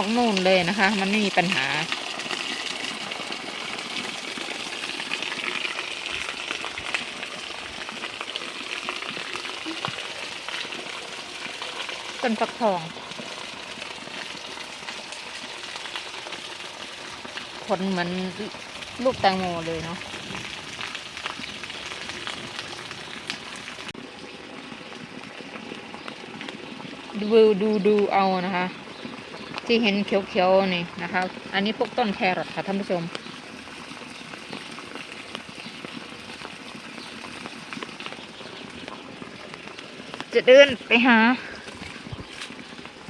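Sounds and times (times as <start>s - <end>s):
steady rain hiss: 0.0s - 43.0s
light ticks of raindrops: 4.6s - 24.0s, 24.8s - 43.0s.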